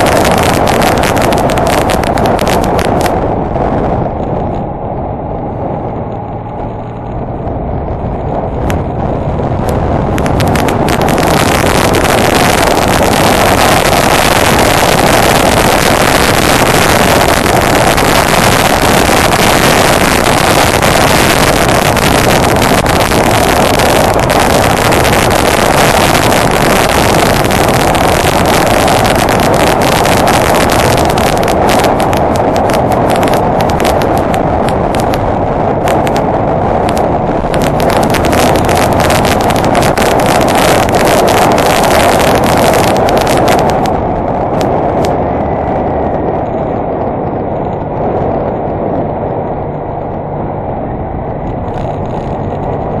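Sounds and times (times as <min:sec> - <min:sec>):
motorcycle engine running: 0:00.0 - 0:53.0
riding wind rush: 0:00.0 - 0:53.0
wind buffeting microphone: 0:00.0 - 0:53.0.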